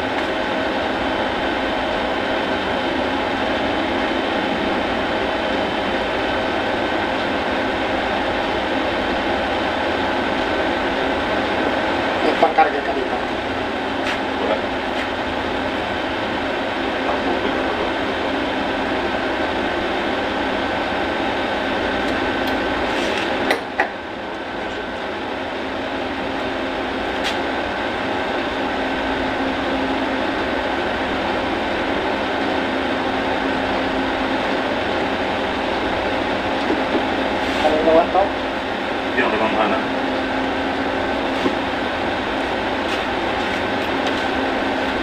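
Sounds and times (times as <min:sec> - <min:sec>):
machine whirring hum: 0:00.0 - 0:45.0.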